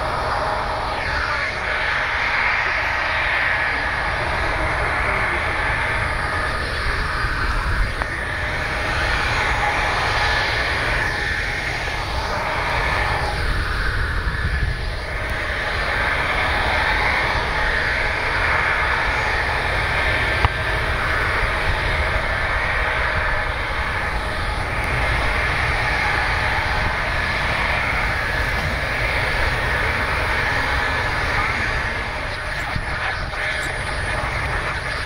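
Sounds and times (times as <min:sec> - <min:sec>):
distant jet engines rumbling: 0:00.0 - 0:35.0
high engine whine: 0:00.0 - 0:35.0.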